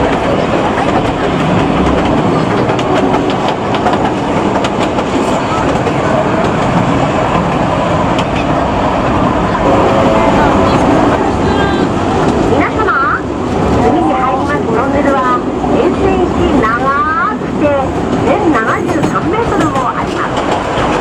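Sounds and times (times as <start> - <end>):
wheels rumbling on rails: 0.0 - 21.0.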